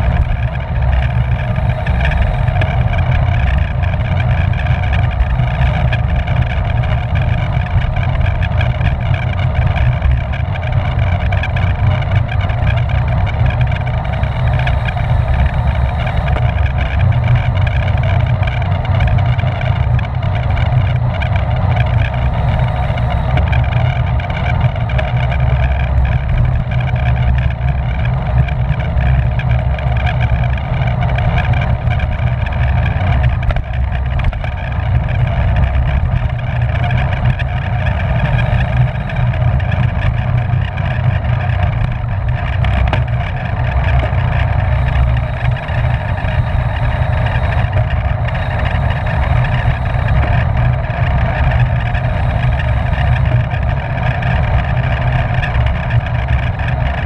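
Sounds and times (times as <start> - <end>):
bicycle tyres and drivetrain humming: 0.0 - 57.0
wind rushing on microphone: 0.0 - 57.0.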